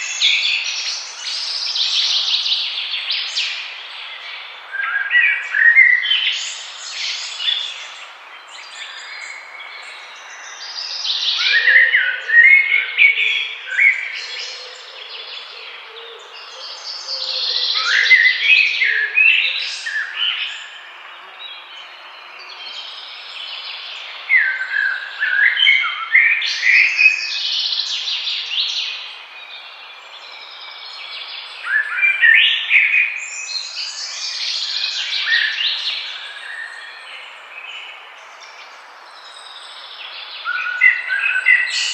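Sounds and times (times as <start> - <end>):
birds singing and chirping: 0.0 - 41.9.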